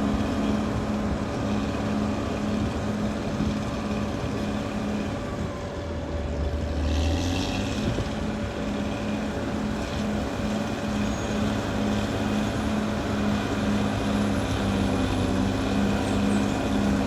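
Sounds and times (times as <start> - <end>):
bulldozer diesel engine under load: 0.0 - 17.0.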